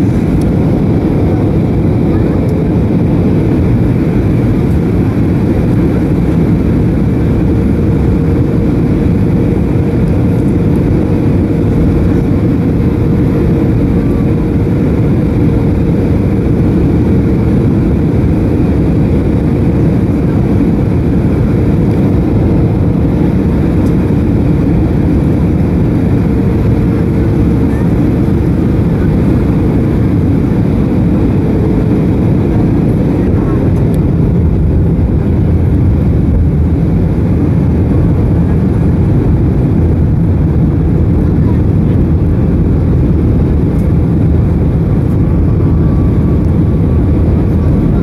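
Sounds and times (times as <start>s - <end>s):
aircraft engine drone: 0.0s - 48.0s
rushing airflow: 0.0s - 48.0s
steady low hum: 0.0s - 48.0s.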